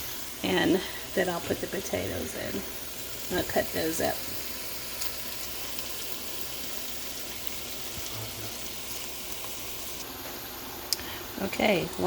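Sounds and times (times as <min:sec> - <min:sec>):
meat and onions sizzling in a pan: 0:00.0 - 0:12.0.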